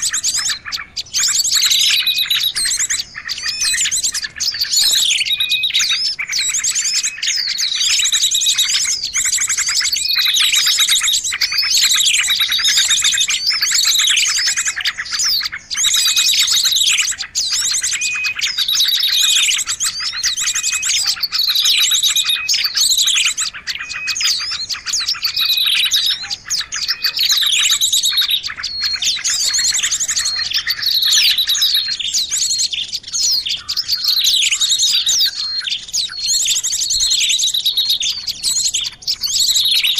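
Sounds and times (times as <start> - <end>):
songbird down-slurred chirps: 0.0 - 39.9
songbird fast high trill: 0.0 - 39.9.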